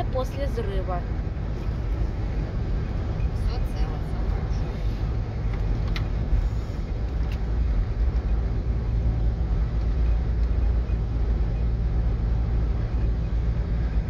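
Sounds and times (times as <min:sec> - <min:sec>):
car cabin low rumble: 0:00.0 - 0:14.0.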